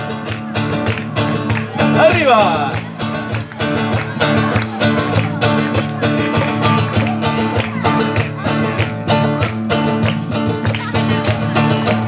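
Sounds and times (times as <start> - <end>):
cajon beats: 0.0 - 12.0
strummed acoustic guitar: 0.0 - 12.0.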